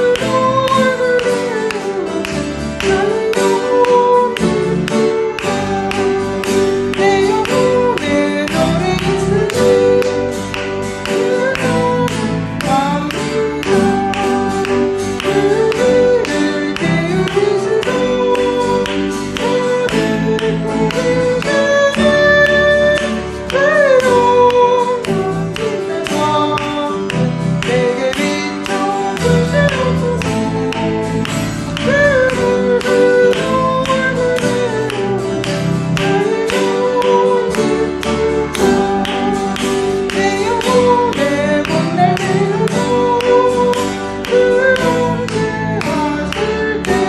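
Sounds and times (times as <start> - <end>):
person singing: 0.0 - 47.0
plucked guitar chords: 0.0 - 47.0.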